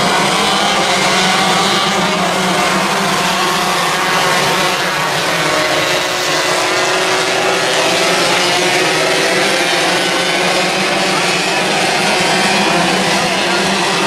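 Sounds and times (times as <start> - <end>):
racing car engines running: 0.0 - 14.0.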